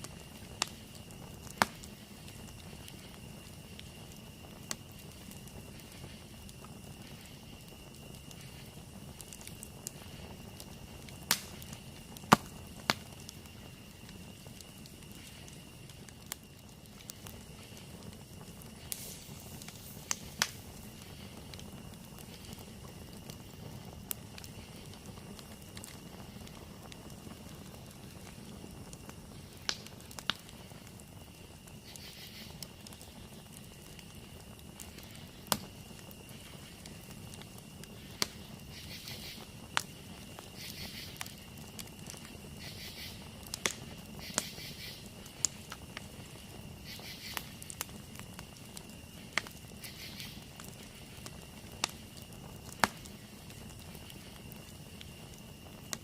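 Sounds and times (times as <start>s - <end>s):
campfire wood popping: 0.0s - 56.0s
fire low rush: 0.0s - 56.0s.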